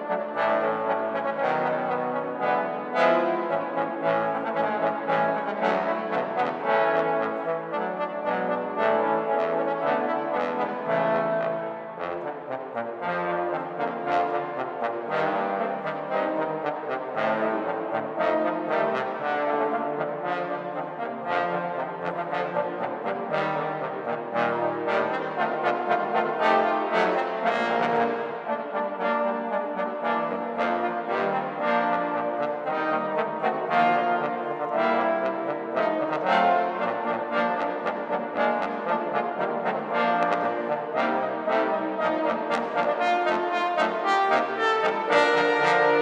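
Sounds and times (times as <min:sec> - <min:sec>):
trombone quartet playing: 0:00.0 - 0:46.0.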